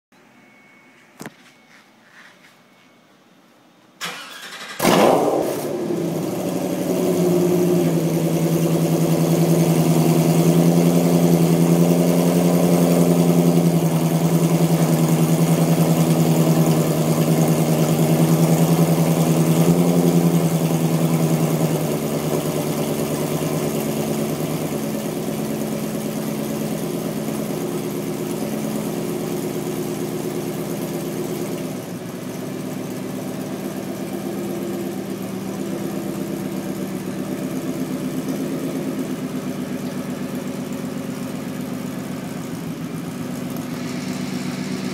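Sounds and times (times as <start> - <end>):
car engine cranking and idling: 4.0 - 44.9.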